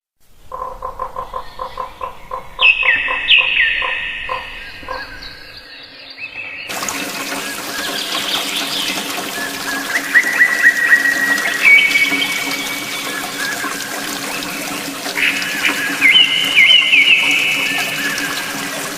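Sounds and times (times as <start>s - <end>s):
rapid pulsed animal call: 0.4s - 18.8s
birds chirping: 0.5s - 18.9s
running water: 2.6s - 18.9s.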